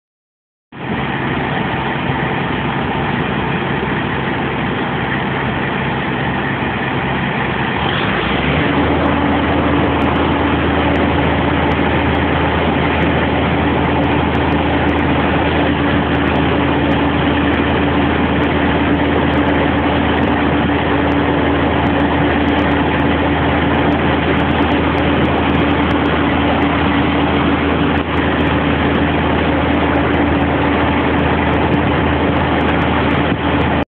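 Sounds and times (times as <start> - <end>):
diesel truck engine running: 0.8 - 33.9.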